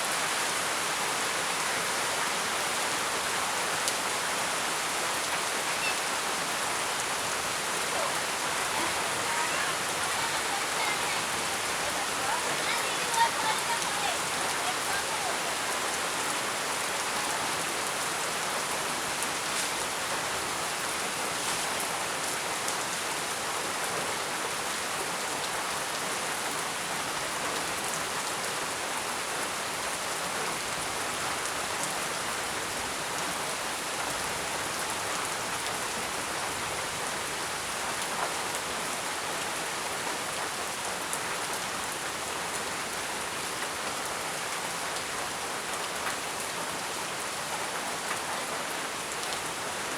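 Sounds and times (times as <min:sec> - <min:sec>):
heavy rain hiss: 0:00.0 - 0:49.9.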